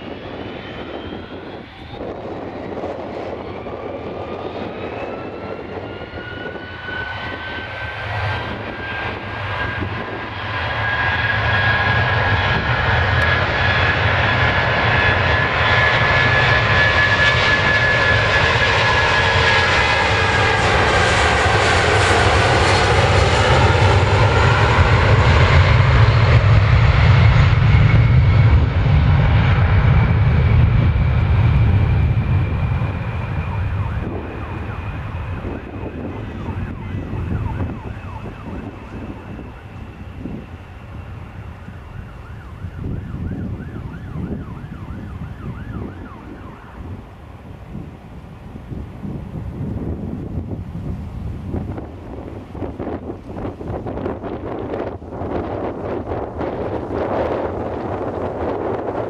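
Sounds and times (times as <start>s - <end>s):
jet engines rumbling and whining: 0.0s - 59.0s
wind buffeting microphone: 0.0s - 59.0s.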